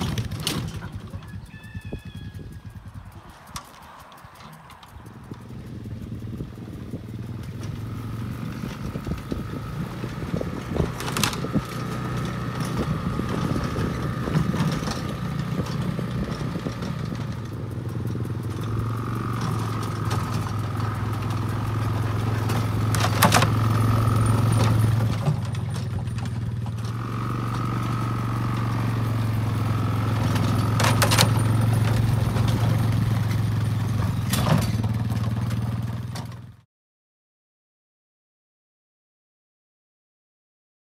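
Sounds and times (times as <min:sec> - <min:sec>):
atv engine running: 0:00.0 - 0:36.6
sharp clacks: 0:02.5 - 0:09.4, 0:10.4 - 0:36.4.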